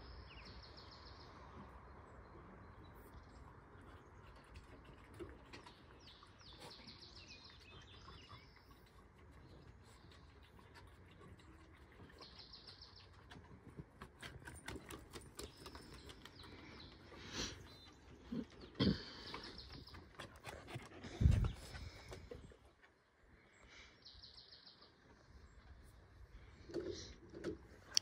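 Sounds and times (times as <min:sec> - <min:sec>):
small birds chirping: 0:00.0 - 0:27.2.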